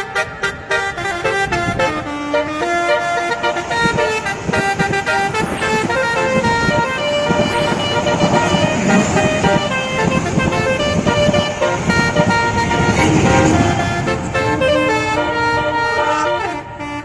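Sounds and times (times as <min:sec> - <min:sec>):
multi-tone musical horn tune: 0:00.0 - 0:17.0.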